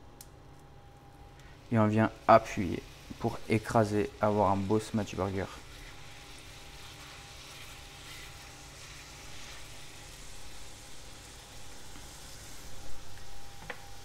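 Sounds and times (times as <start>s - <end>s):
burger patty sizzling in oil: 1.6s - 14.0s.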